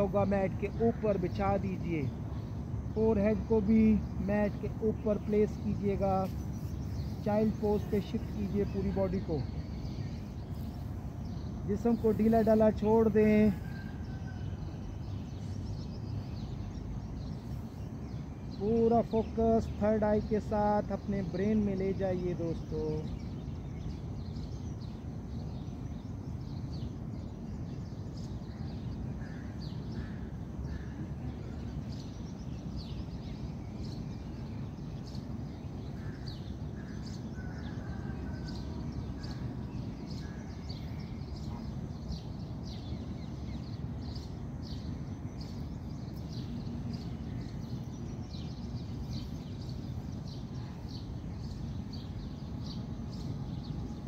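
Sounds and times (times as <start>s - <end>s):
birds chirping: 0.0s - 54.0s
steady low rumble: 0.0s - 54.0s.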